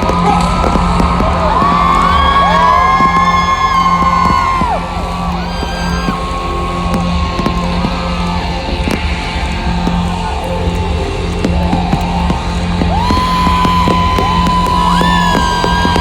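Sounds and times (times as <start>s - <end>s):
music over stadium speakers: 0.0s - 16.0s.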